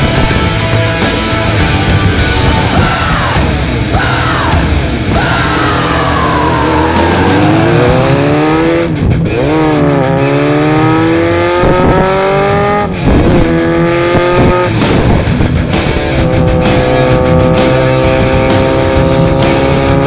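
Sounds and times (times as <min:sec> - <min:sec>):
heavy metal music: 0:00.0 - 0:20.0
motorcycle engine accelerating: 0:00.0 - 0:20.0.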